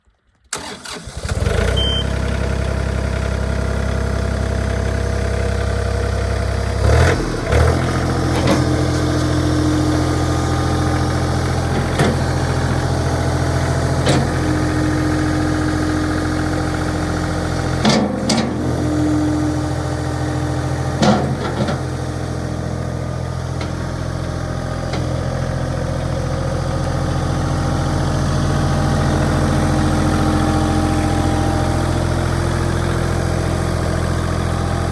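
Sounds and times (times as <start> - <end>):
tractor diesel engine idling: 0.5 - 34.9.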